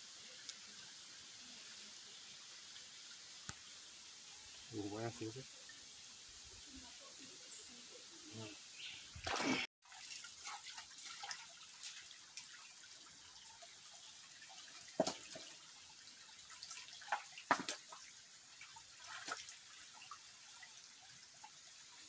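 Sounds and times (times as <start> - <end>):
stream trickling and dripping: 0.0 - 22.0.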